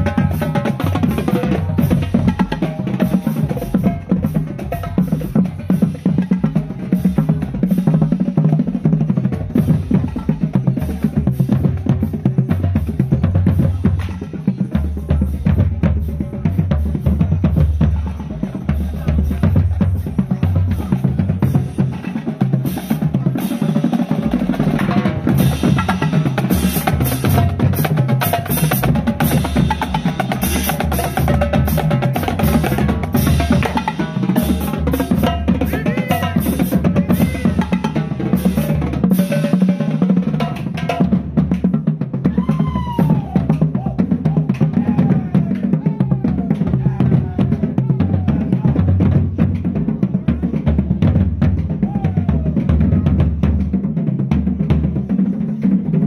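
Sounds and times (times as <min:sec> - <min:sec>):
marching bass drums pulse: 0:00.0 - 0:56.0
rapid snare drum strokes: 0:00.0 - 0:56.0.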